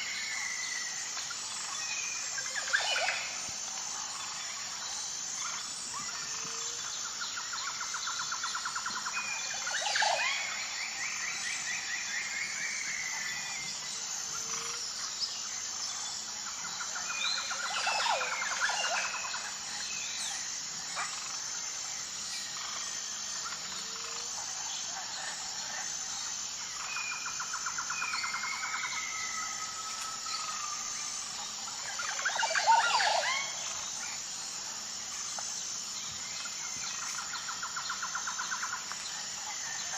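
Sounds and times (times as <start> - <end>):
high insect drone: 0.0 - 39.9
wild birds singing and calling: 0.0 - 39.9.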